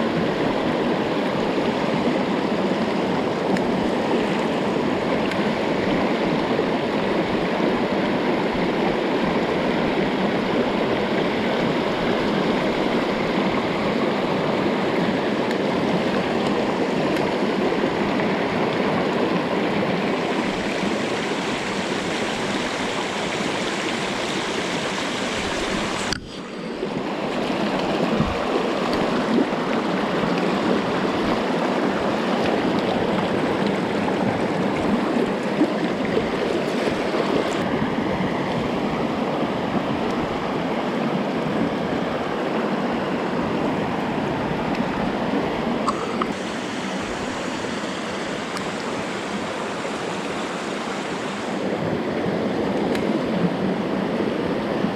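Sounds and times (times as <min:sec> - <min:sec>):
stream water rushing over rocks: 0:00.0 - 0:54.9.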